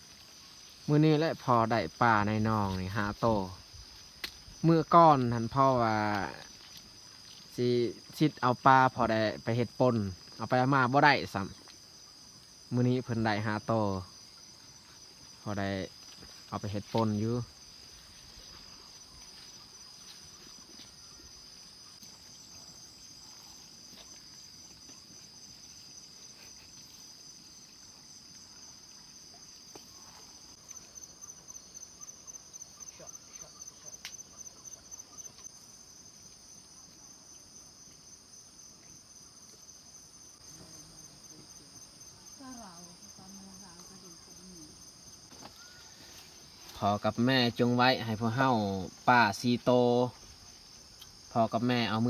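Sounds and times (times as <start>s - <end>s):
crickets and insects chirping: 0.0s - 52.0s.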